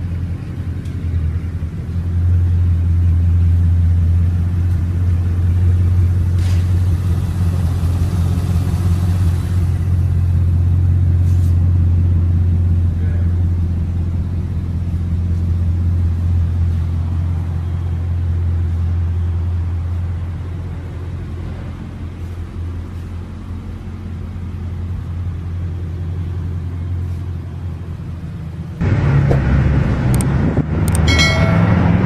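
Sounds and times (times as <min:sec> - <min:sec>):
car engine idling: 0:00.0 - 0:30.2.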